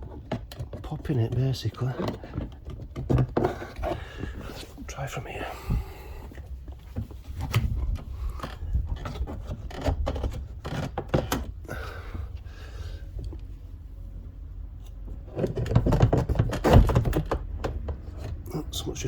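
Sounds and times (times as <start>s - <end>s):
plastic scraping against plastic: 0.0s - 11.8s, 14.7s - 18.7s.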